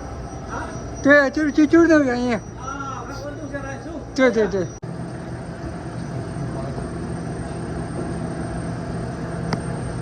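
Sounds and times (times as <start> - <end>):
refrigeration compressor humming: 0.0 - 10.0.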